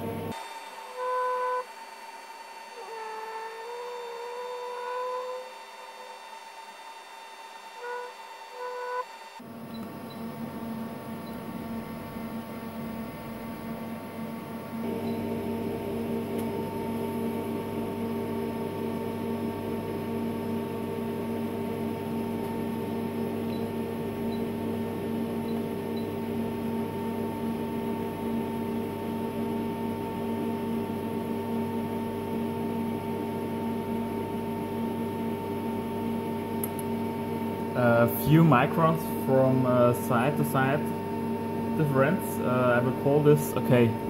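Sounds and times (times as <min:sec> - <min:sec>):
machine humming: 0:00.0 - 0:44.0.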